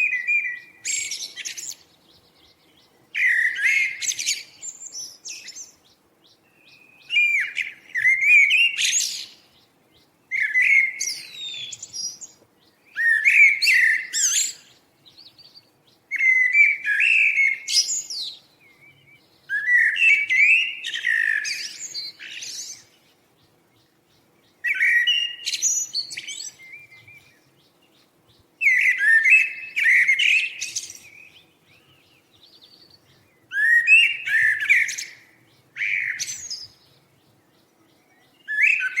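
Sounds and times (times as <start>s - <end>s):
songbird warbling: 0.0s - 39.0s.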